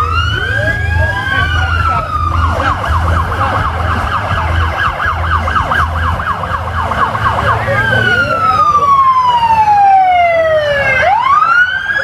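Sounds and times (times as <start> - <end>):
police siren wailing: 0.0 - 12.0
police siren yelp: 0.0 - 12.0
second siren sweeping: 0.0 - 12.0.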